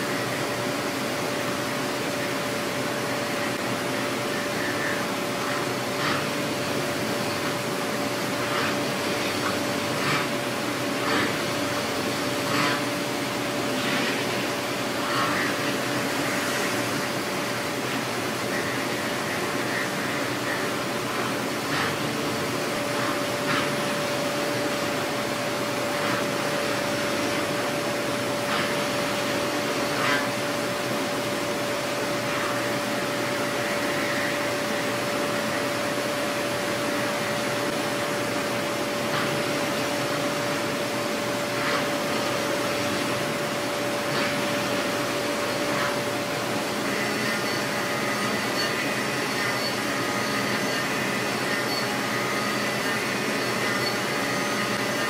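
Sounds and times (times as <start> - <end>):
milling machine whir and hiss: 0.0 - 55.0.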